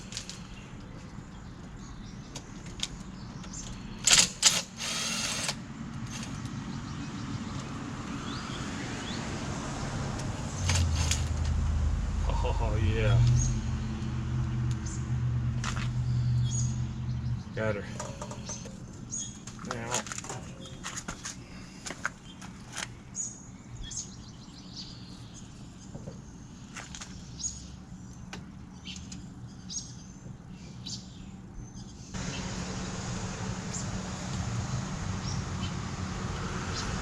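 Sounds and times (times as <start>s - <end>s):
birds chirping: 0.0s - 11.4s, 12.2s - 37.0s.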